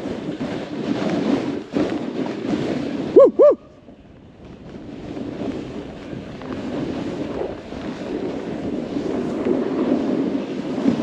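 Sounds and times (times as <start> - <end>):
snowboard hissing through snow: 0.0 - 3.6, 4.6 - 11.0
wind rushing over microphone: 0.0 - 11.0.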